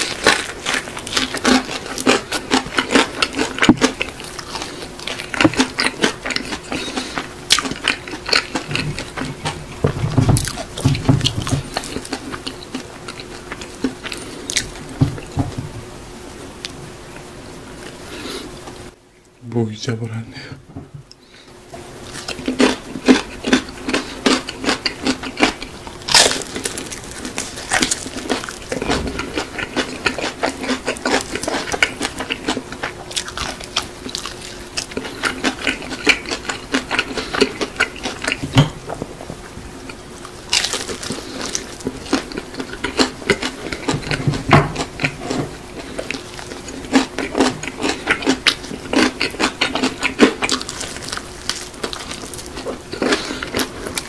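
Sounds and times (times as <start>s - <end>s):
chewing crunchy fried chicken: 0.0s - 15.6s, 21.1s - 54.0s
faint steady hum: 0.0s - 54.0s.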